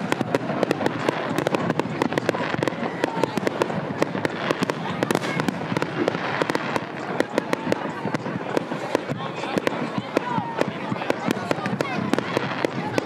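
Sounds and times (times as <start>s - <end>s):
fireworks cracking rapidly: 0.0s - 13.0s.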